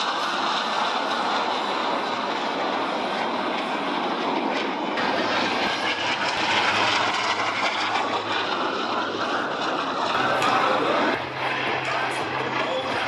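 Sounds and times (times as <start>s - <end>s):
jets flying overhead: 0.0s - 13.0s.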